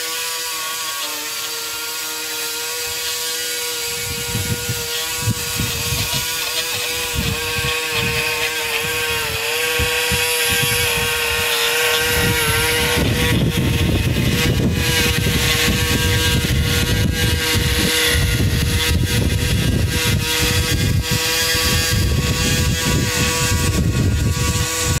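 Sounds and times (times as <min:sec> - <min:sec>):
high whine of mower motor: 0:00.0 - 0:25.0.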